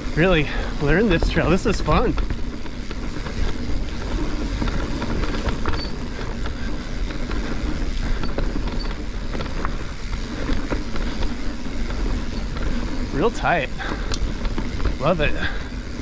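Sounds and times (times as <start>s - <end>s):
bike knocks and rattles: 0.0s - 16.0s
tyre and air rush: 0.0s - 16.0s.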